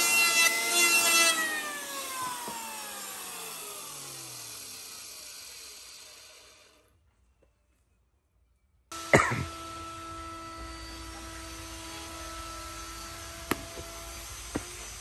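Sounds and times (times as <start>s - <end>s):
steady workshop hum: 0.0s - 15.0s.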